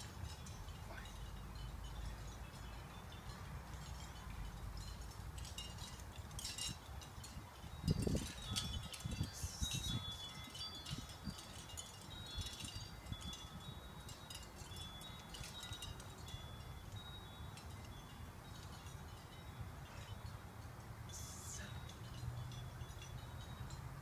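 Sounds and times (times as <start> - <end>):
wind chimes tinkling: 0.0 - 24.0.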